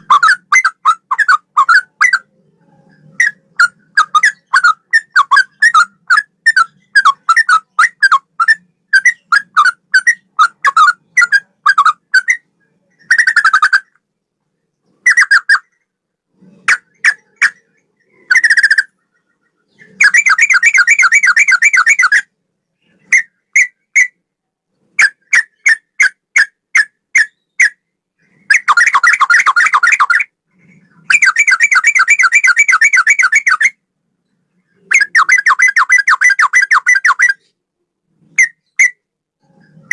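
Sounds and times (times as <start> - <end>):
bird whistled notes and trills: 0.0 - 14.0, 14.9 - 15.8, 16.4 - 24.2, 25.0 - 37.6, 38.2 - 39.9.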